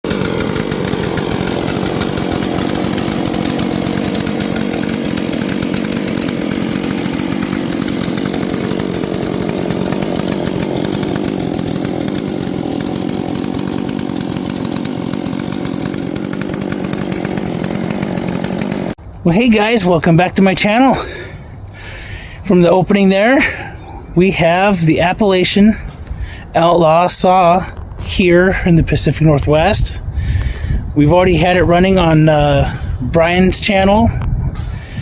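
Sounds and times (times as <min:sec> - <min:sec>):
chainsaw running: 0:00.0 - 0:26.5, 0:30.2 - 0:35.0.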